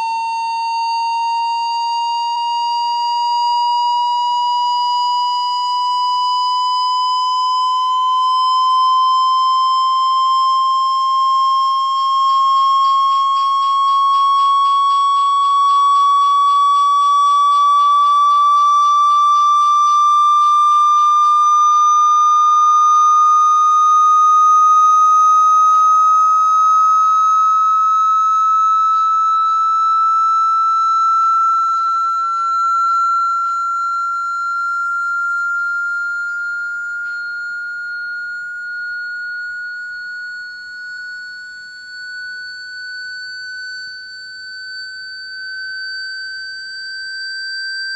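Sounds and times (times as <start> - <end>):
high tone rising in pitch: 0.0 - 47.9.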